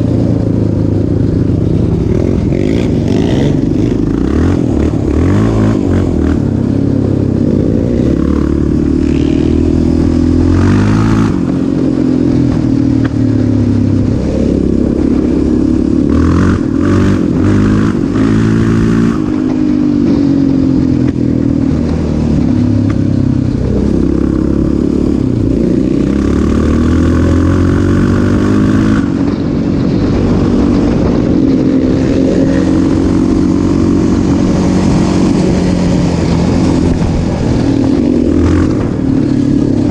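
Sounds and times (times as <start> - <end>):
off-road engine revving: 0.0 - 20.2, 21.7 - 39.9.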